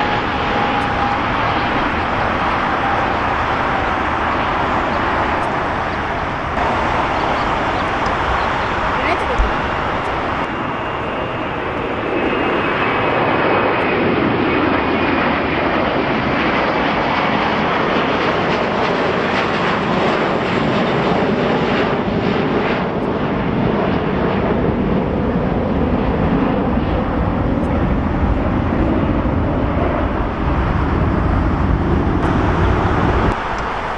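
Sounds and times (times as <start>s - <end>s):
jet airliner engines roaring: 0.0s - 33.9s.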